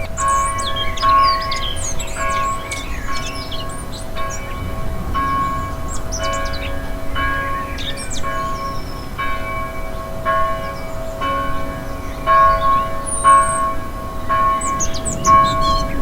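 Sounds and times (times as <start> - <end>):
church bell tolling: 0.0 - 16.0
small birds chirping: 0.0 - 16.0.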